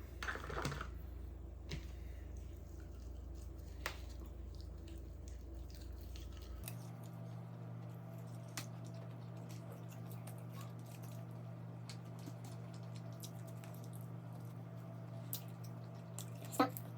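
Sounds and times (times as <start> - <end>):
steady low hum: 0.0 - 16.9
person chewing food: 1.9 - 16.9.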